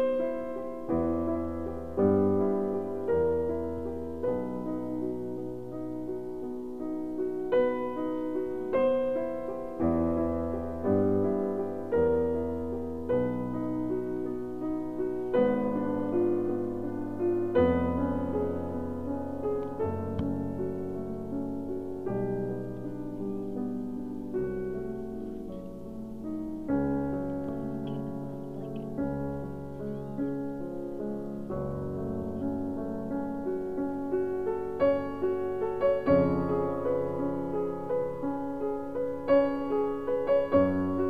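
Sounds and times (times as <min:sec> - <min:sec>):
slow piano chords: 0:00.0 - 0:41.0.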